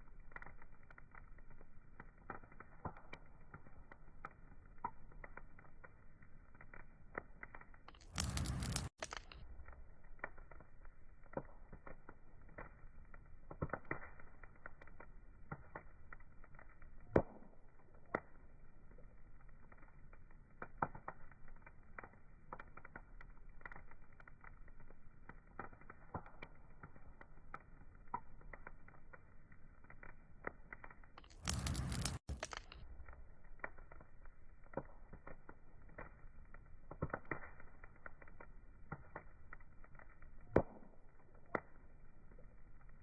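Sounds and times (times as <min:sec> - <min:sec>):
muffled wood fire crackling: 0:00.0 - 0:43.0.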